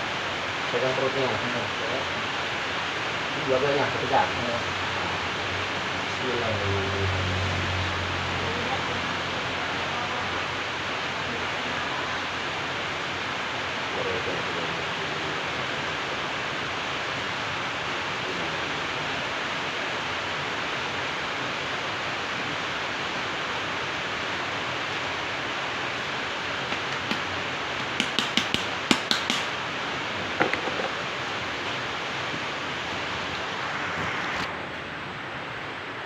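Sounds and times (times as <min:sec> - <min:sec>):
steady hiss: 0:00.0 - 0:07.1, 0:09.6 - 0:36.0.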